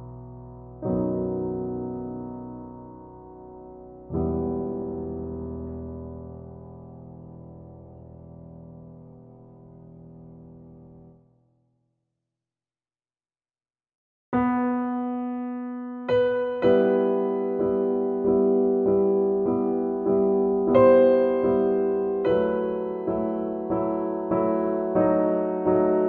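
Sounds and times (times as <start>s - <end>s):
piano music: 0.0s - 11.0s, 14.4s - 26.0s.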